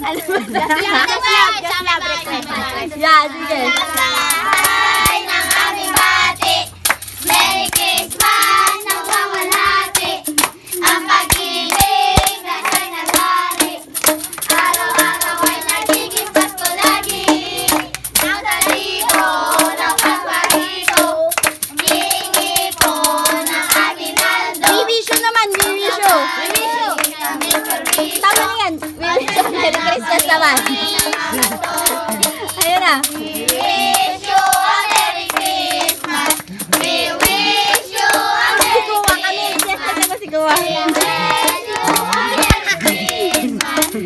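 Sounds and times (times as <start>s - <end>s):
children singing a carol: 0.6s - 44.0s
hand claps: 3.6s - 44.0s
tambourine: 6.3s - 24.9s, 25.5s - 44.0s.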